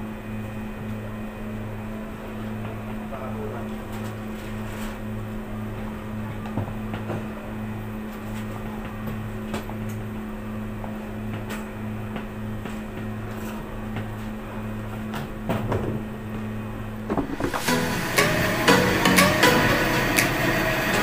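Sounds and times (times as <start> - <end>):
low hum of bakery equipment: 0.0 - 21.0.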